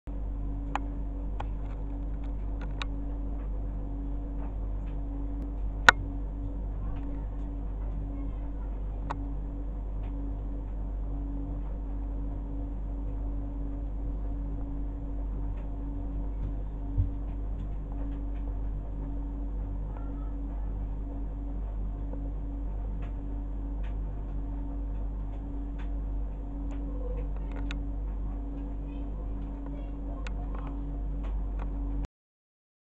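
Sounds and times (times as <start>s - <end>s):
aquarium equipment hum: 0.1s - 32.1s.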